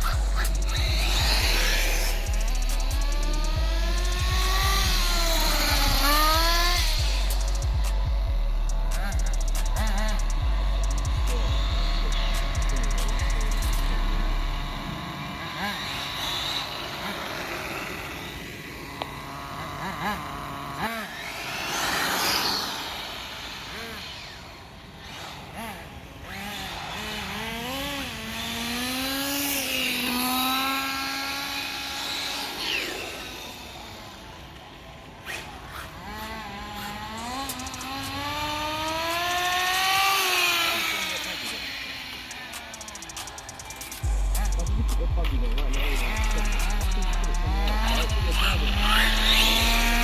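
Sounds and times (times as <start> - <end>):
radio-controlled car motors: 0.0 - 50.0.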